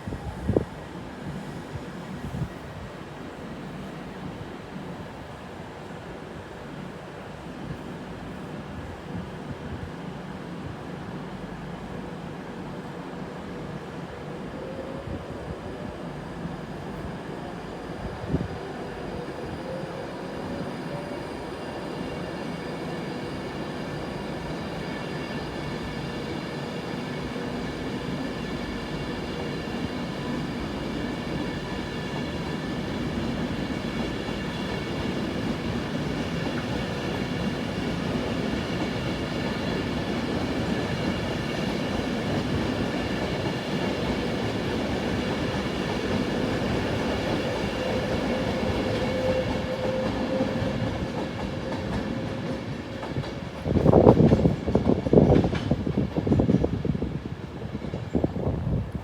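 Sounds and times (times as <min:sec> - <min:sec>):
train rumbling with whining tones: 0:00.0 - 0:59.0.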